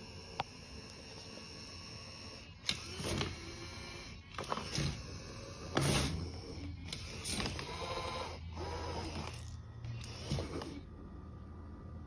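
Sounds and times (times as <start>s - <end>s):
faint mechanical whir: 0.0s - 12.0s.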